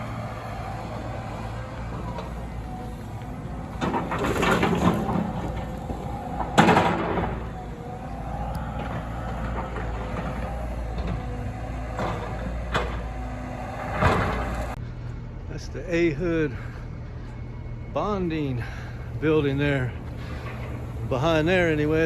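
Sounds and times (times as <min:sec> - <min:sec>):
heavy machine engine rumbling: 0:00.0 - 0:22.0.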